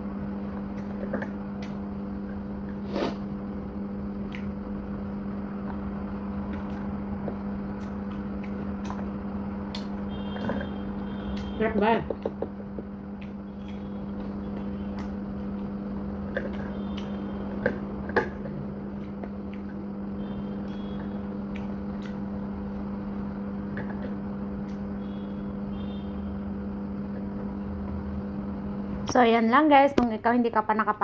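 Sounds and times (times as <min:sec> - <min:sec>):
steady motor hum: 0:00.0 - 0:31.0.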